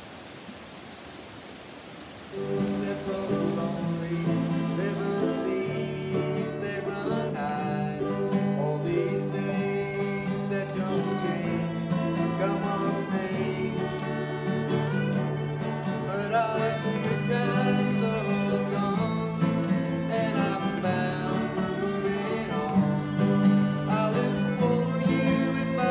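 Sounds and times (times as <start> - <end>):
acoustic guitar strumming: 2.3 - 25.9
banjo: 2.4 - 25.9
fiddle playing a tune: 2.4 - 25.9.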